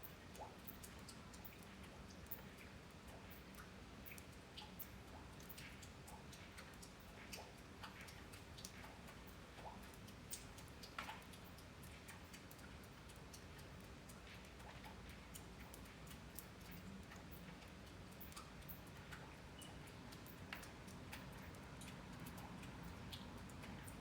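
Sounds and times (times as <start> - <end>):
raindrops dripping: 0.0 - 24.0.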